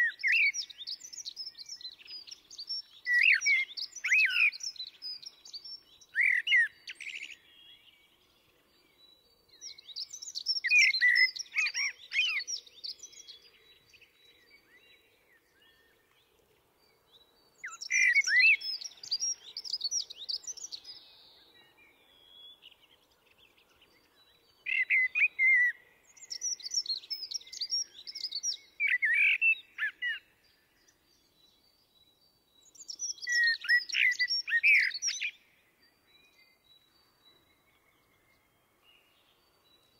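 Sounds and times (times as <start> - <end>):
blackbird singing: 0.0 - 39.9.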